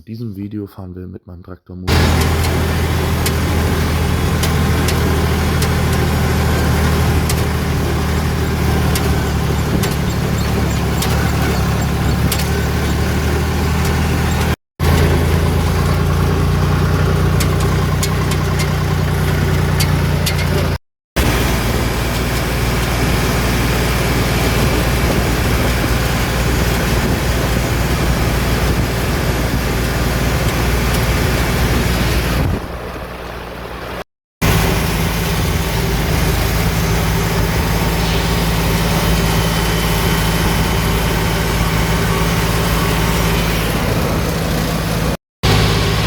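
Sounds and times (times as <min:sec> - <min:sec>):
tractor engine running: 0:01.9 - 0:46.0.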